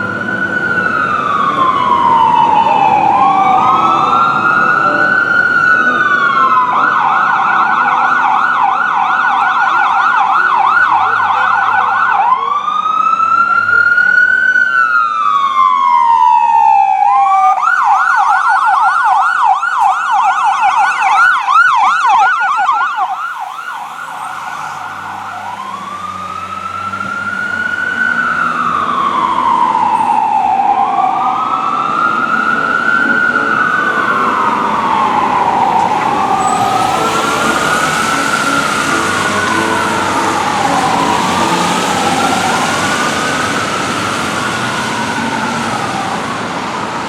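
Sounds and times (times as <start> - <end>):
fire engine siren: 0.0 - 47.0.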